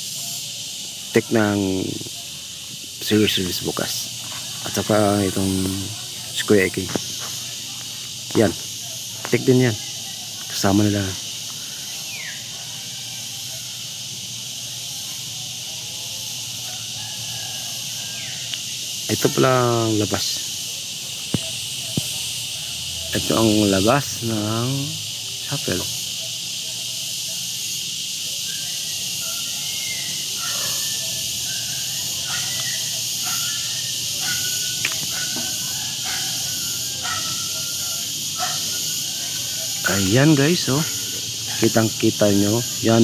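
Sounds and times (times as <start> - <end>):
insects chirping: 0.0 - 43.0.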